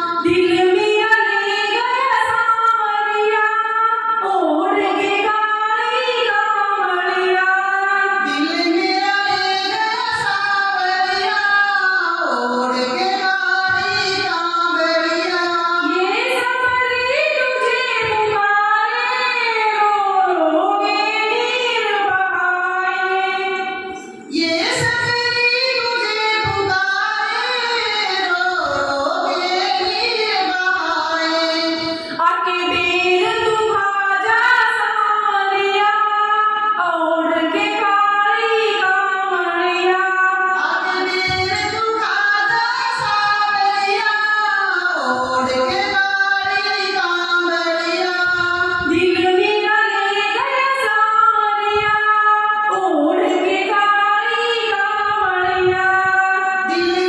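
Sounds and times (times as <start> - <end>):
woman singing devotional song: 0.0 - 57.0.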